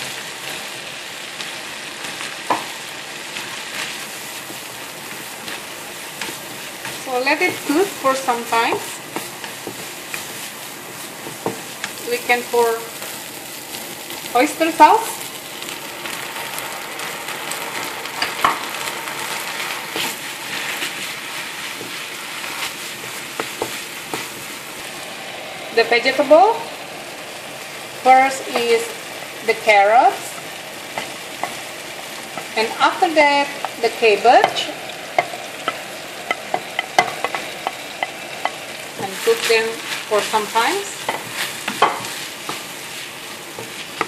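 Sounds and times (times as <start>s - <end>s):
meat sizzling in oil: 0.0s - 44.0s.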